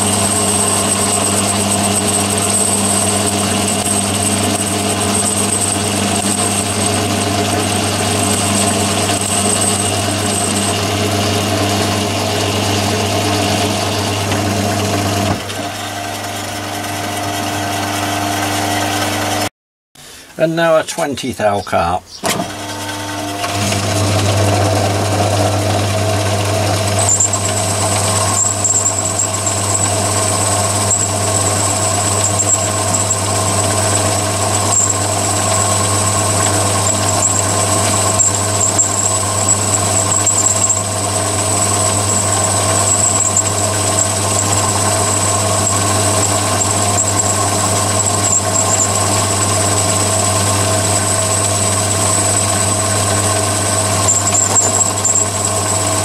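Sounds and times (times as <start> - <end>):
high steady whine: 0.0 - 19.5, 26.7 - 56.0
lathe motor and spindle hum: 0.0 - 19.5, 22.2 - 56.0.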